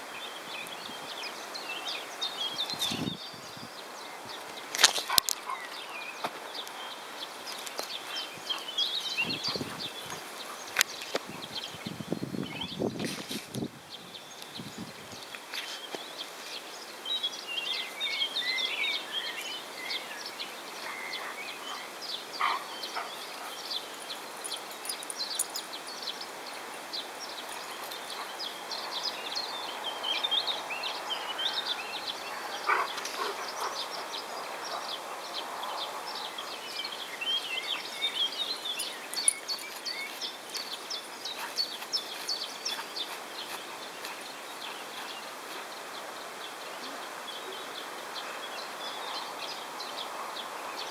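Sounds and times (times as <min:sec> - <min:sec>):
small birds chirping: 0:00.0 - 0:50.9
steady background hiss: 0:00.0 - 0:50.9.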